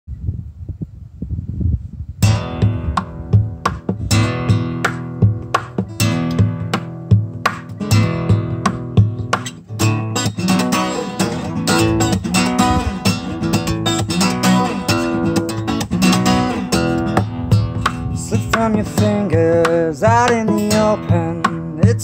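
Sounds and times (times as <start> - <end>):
acoustic guitar strumming chords: 2.2 - 22.0.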